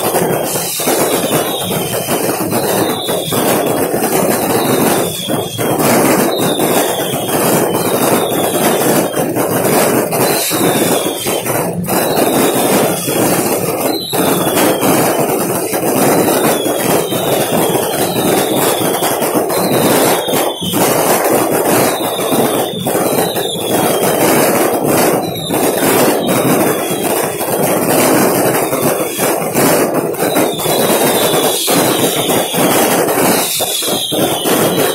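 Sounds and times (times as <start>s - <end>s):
fireworks crackling and banging: 0.0s - 34.9s
fireworks falling whistle: 0.0s - 34.9s.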